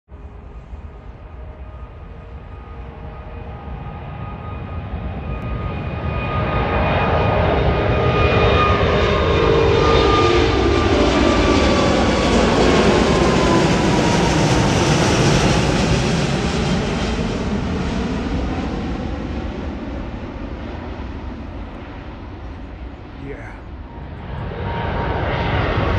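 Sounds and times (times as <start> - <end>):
jet engines at takeoff thrust: 0.1 - 25.9.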